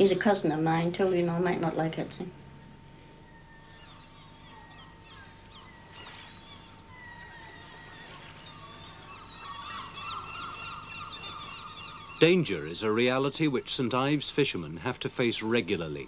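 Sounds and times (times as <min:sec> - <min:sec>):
faint steady hum: 0:00.0 - 0:16.0
gulls calling: 0:00.0 - 0:16.0.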